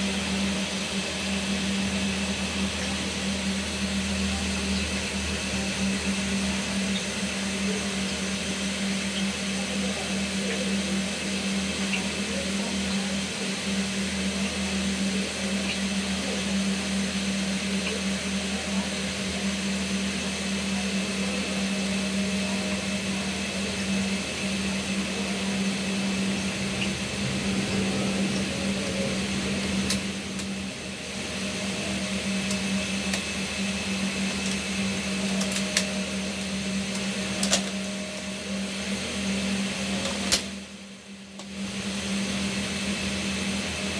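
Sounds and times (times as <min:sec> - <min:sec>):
electrical hum with hiss: 0:00.0 - 0:43.9.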